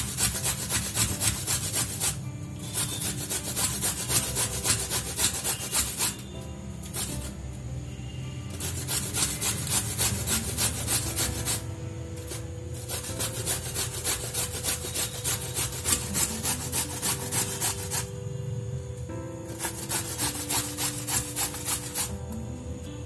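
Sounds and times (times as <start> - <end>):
coconut rasping on a metal grater: 0.0 - 7.4, 8.5 - 18.1, 19.5 - 22.3.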